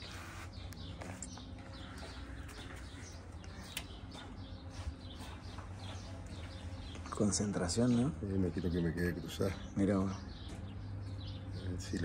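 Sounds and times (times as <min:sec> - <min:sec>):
faint birds chirping: 0:00.0 - 0:12.0
steady low hum: 0:00.0 - 0:12.0.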